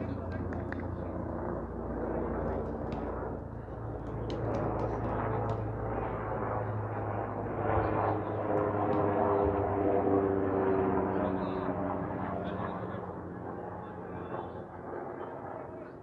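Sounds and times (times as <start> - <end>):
aircraft droning overhead: 0.0 - 16.0.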